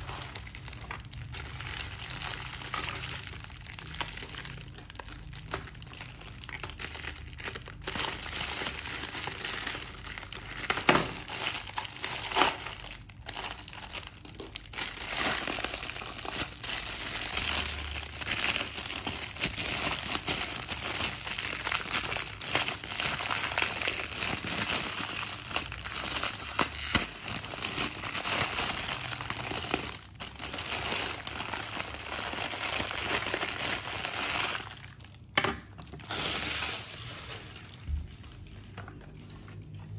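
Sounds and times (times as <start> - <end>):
plastic wrapping crinkling: 0.0 - 39.9.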